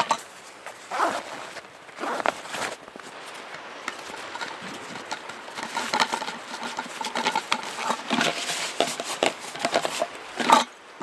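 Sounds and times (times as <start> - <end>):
nylon sack rustling: 0.4 - 10.6.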